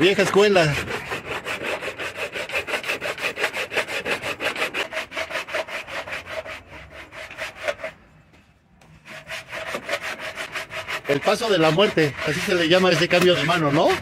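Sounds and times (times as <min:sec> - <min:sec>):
hand saw cutting plastic: 0:00.0 - 0:08.0, 0:09.0 - 0:14.0.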